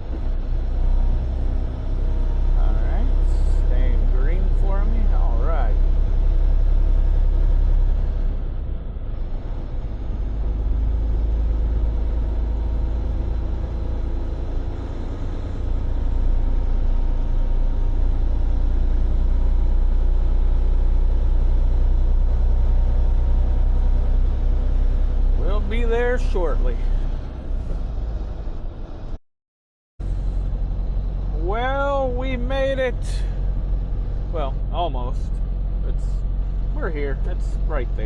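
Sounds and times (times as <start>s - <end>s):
truck engine and road noise: 0.0s - 29.2s, 30.0s - 38.0s.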